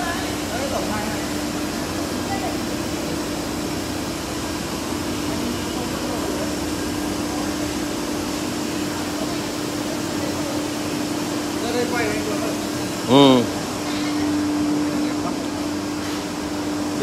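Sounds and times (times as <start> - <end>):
workshop machinery whirring: 0.0 - 17.0.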